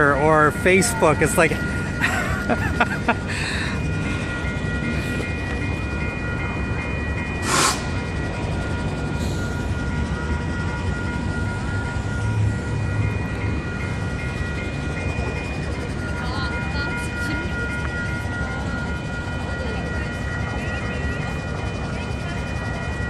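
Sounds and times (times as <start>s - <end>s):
level-crossing bells ringing: 0.0s - 23.0s.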